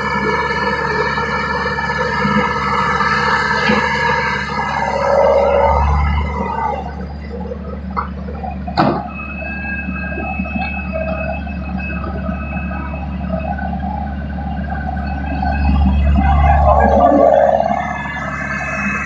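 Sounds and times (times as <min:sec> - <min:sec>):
heavy machinery engine drone: 0:00.0 - 0:19.0
thin whine: 0:00.0 - 0:19.0.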